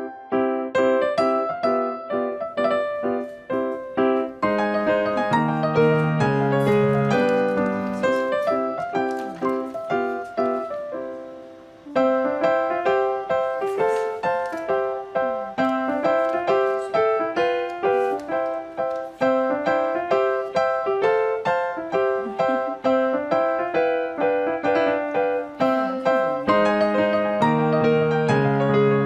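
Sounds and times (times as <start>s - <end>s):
piano playing: 0.0s - 29.0s.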